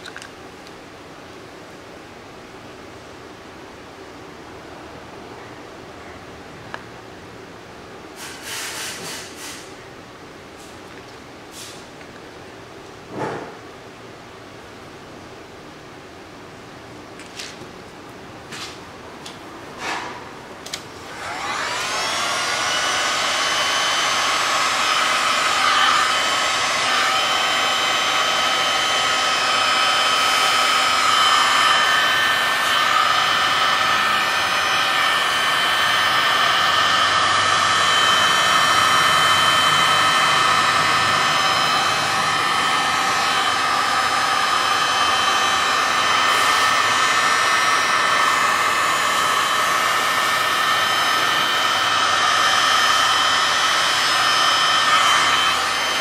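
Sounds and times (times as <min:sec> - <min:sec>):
heat gun fan whine: 0:06.7 - 0:56.0.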